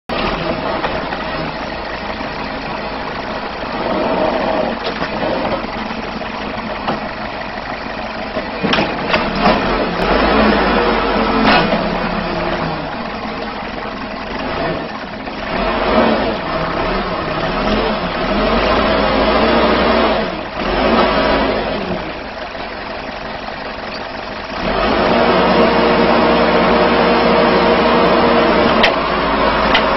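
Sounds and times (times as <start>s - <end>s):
diesel engine running: 0.1s - 29.9s.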